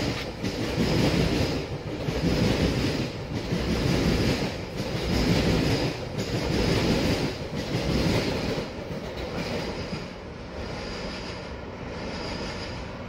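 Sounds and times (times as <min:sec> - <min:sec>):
clickety-clack over rail joints: 0:00.0 - 0:13.0
train coaches rolling past: 0:00.0 - 0:13.0.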